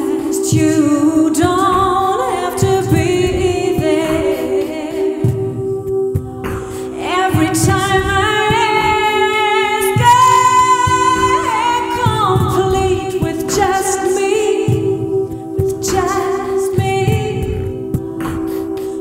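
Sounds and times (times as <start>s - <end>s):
woman singing into microphone: 0.0s - 18.4s.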